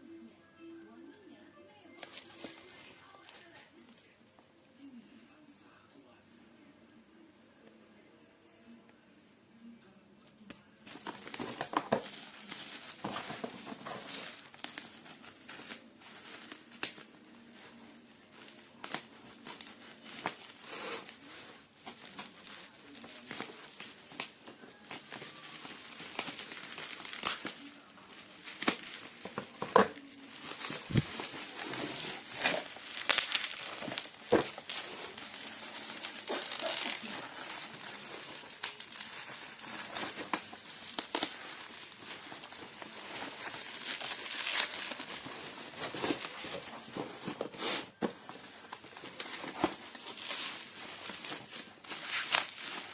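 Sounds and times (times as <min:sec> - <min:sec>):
crinkling and rustling: 0:01.8 - 0:04.1, 0:10.8 - 0:52.9.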